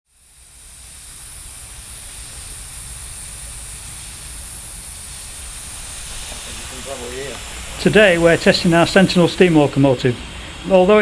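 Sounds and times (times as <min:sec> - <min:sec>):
steam locomotive hissing: 0:00.1 - 0:11.0.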